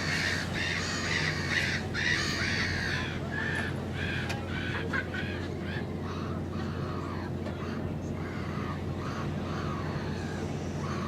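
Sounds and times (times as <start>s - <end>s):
gulls calling: 0.0s - 11.0s
steady low hum: 0.0s - 11.0s.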